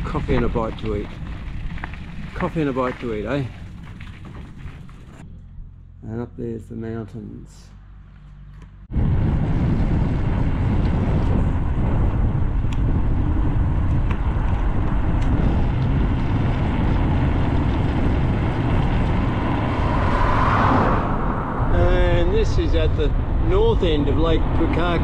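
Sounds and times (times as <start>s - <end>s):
wind buffeting microphone: 0.0s - 5.2s, 8.9s - 25.0s.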